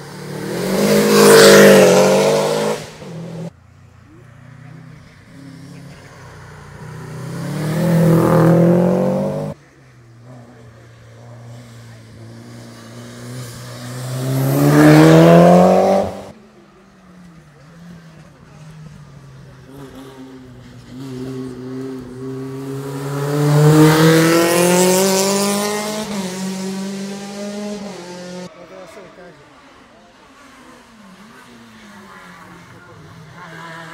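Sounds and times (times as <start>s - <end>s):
race car engines accelerating: 0.0s - 33.9s.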